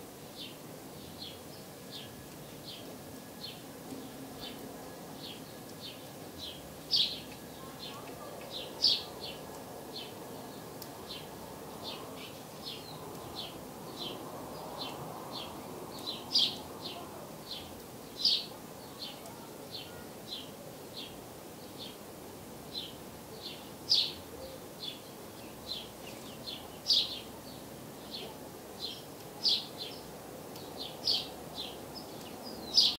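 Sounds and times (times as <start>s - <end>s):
faint background noise: 0.0s - 33.0s
songbird chirping: 0.0s - 33.0s.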